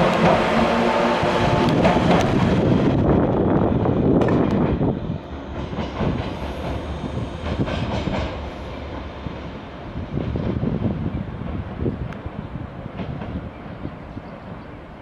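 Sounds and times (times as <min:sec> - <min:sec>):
train moving slowly: 0:00.0 - 0:15.0.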